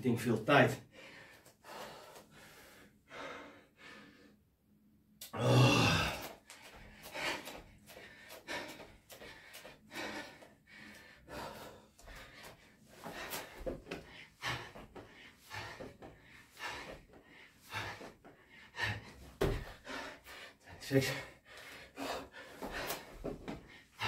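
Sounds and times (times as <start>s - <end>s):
man breathing hard: 0.8s - 4.5s, 5.2s - 24.0s.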